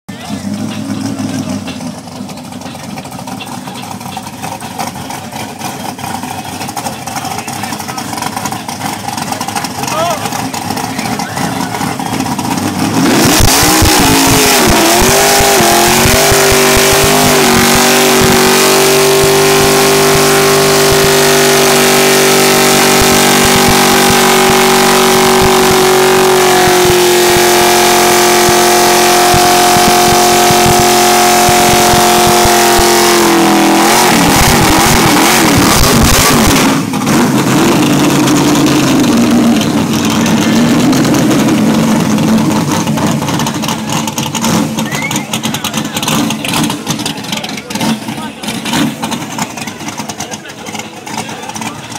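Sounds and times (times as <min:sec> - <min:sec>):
car engine revving hard: 0:00.1 - 0:51.9
tyres spinning on tarmac: 0:00.1 - 0:51.9.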